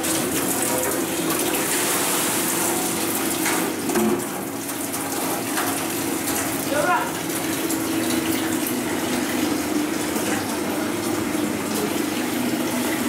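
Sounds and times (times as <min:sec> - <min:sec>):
water running: 0:00.0 - 0:13.0.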